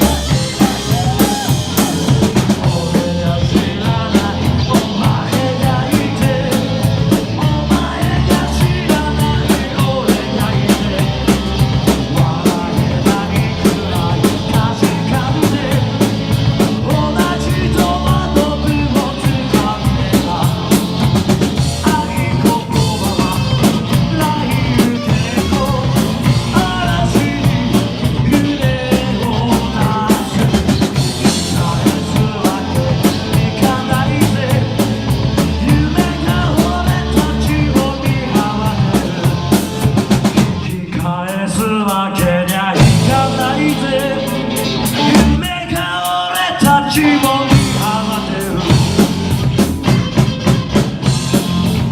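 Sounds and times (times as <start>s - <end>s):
bass guitar: 0.0s - 51.9s
drum kit beat: 0.0s - 51.9s
electric guitars: 0.0s - 51.9s.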